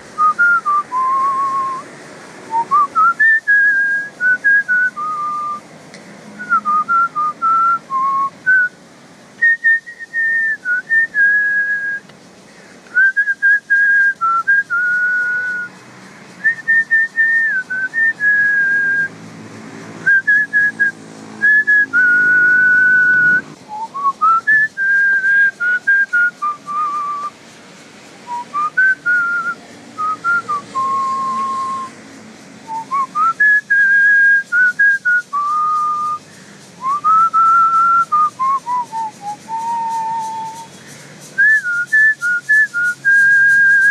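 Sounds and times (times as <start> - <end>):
person whistling a tune: 0.2 - 1.8, 2.5 - 5.6, 6.4 - 8.8, 9.4 - 12.0, 12.9 - 15.8, 16.4 - 19.1, 20.0 - 27.4, 28.3 - 31.9, 32.6 - 40.8, 41.4 - 43.9.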